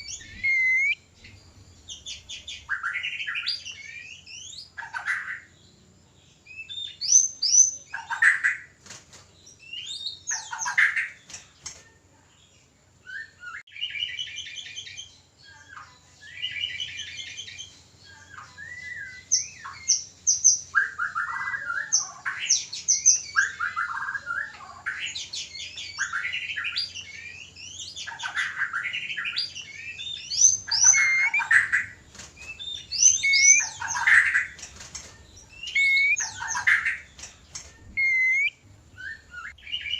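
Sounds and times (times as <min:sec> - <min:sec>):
bird singing and calling: 0:00.0 - 0:05.6, 0:06.4 - 0:08.7, 0:09.5 - 0:11.8, 0:13.1 - 0:39.9.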